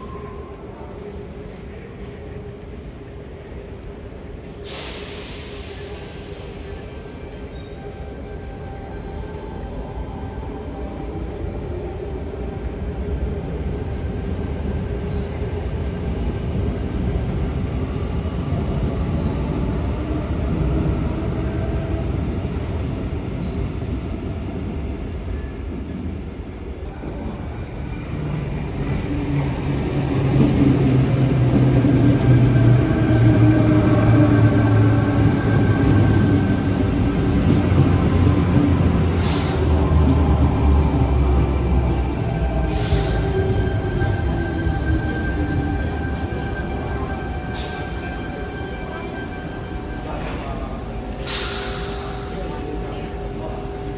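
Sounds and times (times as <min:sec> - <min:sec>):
electric train rumble: 0:01.2 - 0:53.9.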